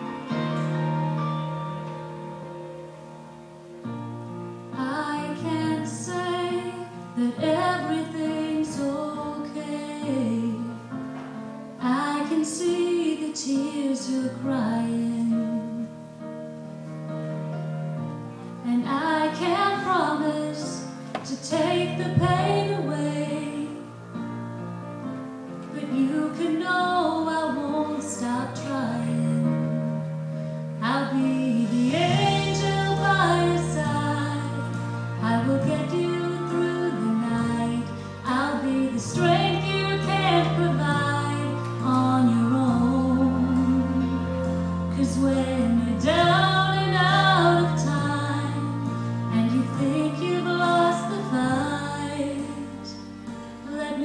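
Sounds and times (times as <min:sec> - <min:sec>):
guitar accompaniment: 0:00.0 - 0:54.0
woman singing: 0:04.8 - 0:11.0, 0:11.8 - 0:16.0, 0:18.6 - 0:24.0, 0:25.7 - 0:30.0, 0:30.8 - 0:54.0.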